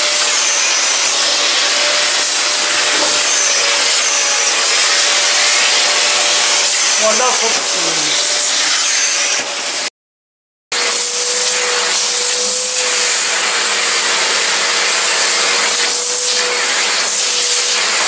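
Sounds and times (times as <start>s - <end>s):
vacuum cleaner running: 0.0s - 9.9s, 10.7s - 18.0s.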